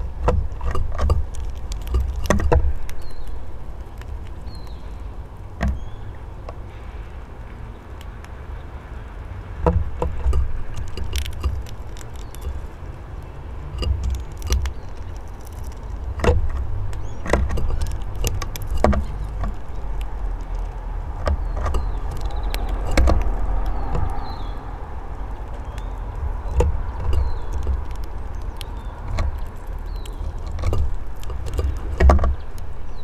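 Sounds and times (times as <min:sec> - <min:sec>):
birds pecking on wood: 0:00.0 - 0:33.0
low uneven rumble: 0:00.0 - 0:33.0.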